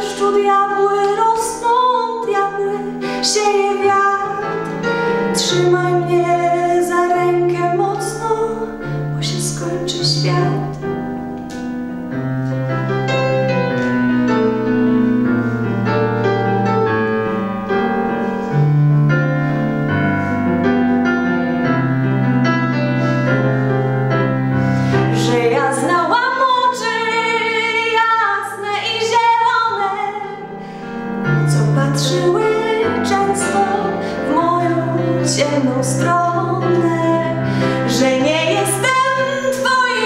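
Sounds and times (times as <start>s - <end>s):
piano chords: 0.0s - 40.0s
lead melody line: 4.6s - 37.3s.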